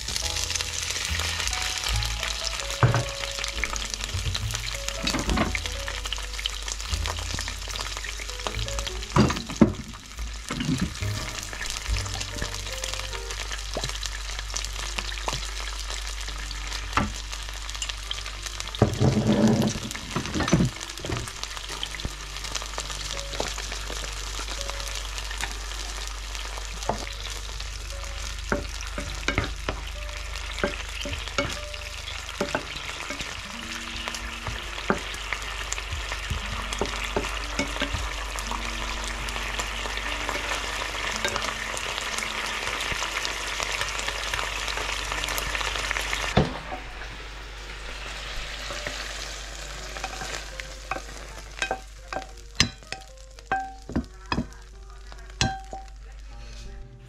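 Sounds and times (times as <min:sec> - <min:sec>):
ferns sizzling in hot oil: 0:00.0 - 0:56.7.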